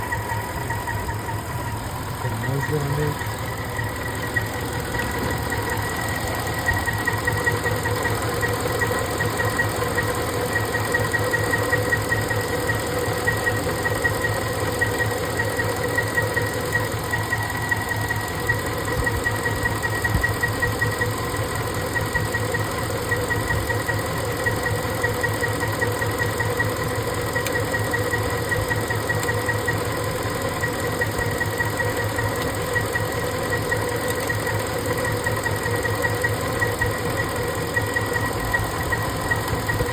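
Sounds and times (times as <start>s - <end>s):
engine idling with a misfire: 0.0s - 39.9s.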